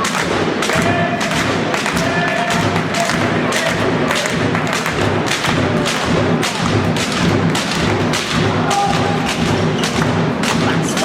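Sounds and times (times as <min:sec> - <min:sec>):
crowd noise in a hall: 0:00.0 - 0:11.0
rhythmic thumps: 0:00.0 - 0:11.0.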